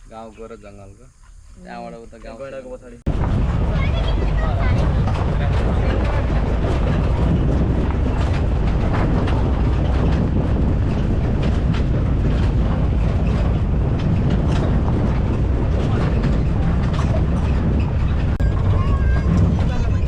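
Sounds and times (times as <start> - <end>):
engine and tyres rumbling: 3.0 - 20.0
vehicle rattles and knocks: 3.1 - 20.0.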